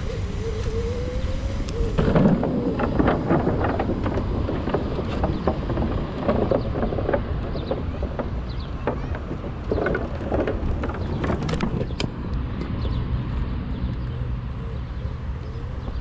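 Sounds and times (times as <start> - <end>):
scooter wheels knocking on wooden planks: 0.0 - 13.0
scooter rumbling on stone paving: 0.0 - 16.0.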